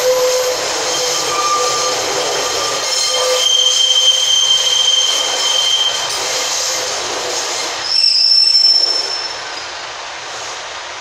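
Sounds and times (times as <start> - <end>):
high-pitched wheel and brake squeal: 0.0 - 9.6
diesel train running in: 0.0 - 11.0.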